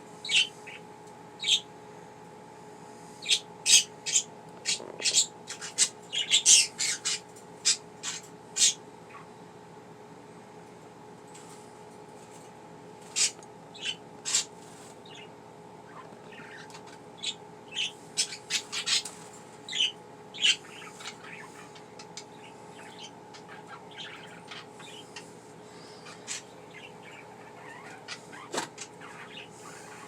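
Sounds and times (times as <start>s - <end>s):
faint steady hum: 0.0s - 30.0s
budgies chirping: 0.2s - 1.7s, 3.2s - 9.3s, 13.0s - 30.0s.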